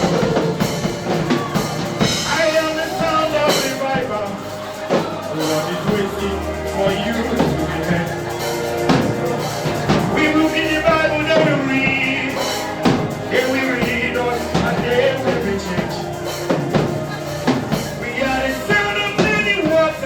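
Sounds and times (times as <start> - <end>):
bass: 0.0 - 20.0
drum kit beat: 0.0 - 20.0
gospel band playing: 0.0 - 20.0
people singing: 0.0 - 20.0.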